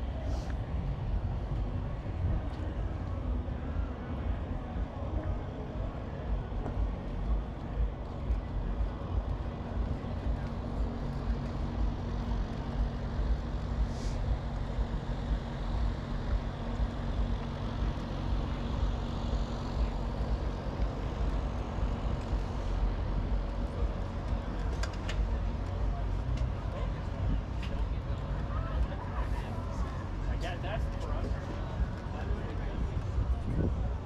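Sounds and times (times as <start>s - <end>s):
steady low hum: 0.0s - 34.0s
wind rumbling on microphone: 0.0s - 34.0s.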